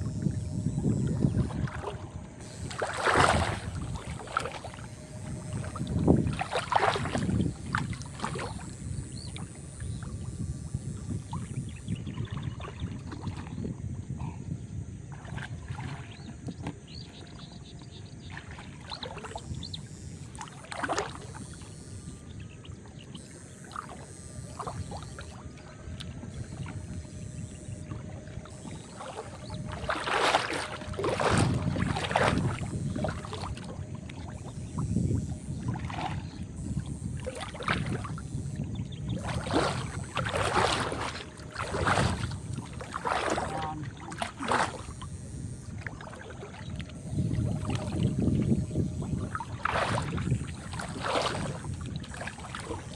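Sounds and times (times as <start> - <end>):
water splashing and sloshing: 0.0 - 52.9.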